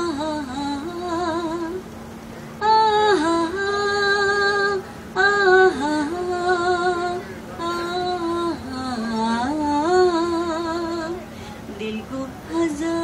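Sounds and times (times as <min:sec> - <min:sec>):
woman singing with vibrato: 0:00.0 - 0:01.9, 0:02.6 - 0:13.0
steady low hum: 0:00.0 - 0:13.0.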